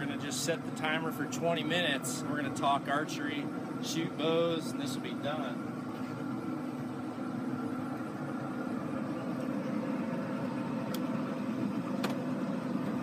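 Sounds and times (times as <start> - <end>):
low mechanical hum of motor: 0.0 - 13.0.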